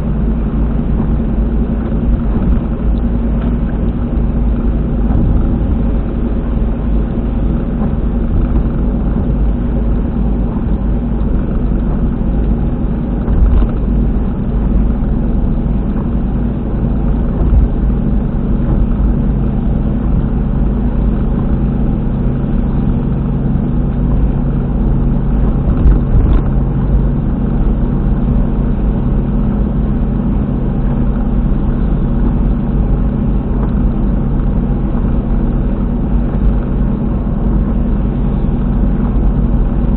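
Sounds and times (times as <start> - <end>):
wheel bearing drone and rumble: 0.0 - 39.9.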